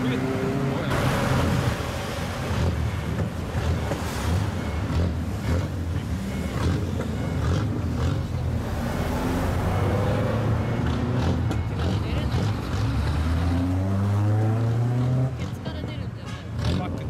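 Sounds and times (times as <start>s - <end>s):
cars driving past: 0.0s - 17.0s.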